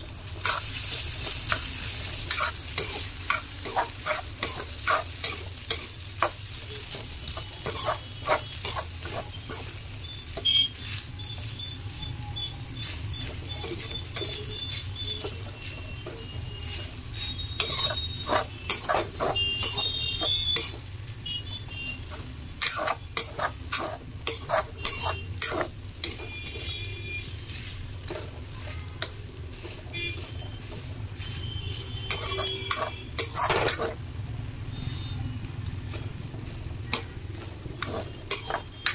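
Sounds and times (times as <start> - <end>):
light sizzle: 0.0 - 38.9
spatula scraping metal pan: 1.5 - 6.4, 7.0 - 11.3, 12.8 - 20.8, 22.1 - 34.0, 36.9 - 38.9.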